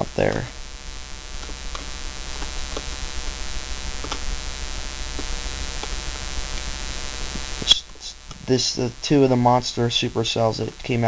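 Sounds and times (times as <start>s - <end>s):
electrical hum and buzz: 0.0s - 11.0s.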